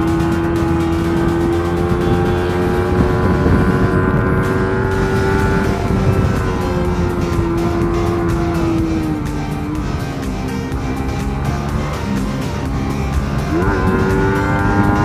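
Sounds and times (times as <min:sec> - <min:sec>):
background music: 0:00.0 - 0:15.0
motorcycle engine cruising: 0:00.0 - 0:15.0
road and wind rumble: 0:00.0 - 0:15.0.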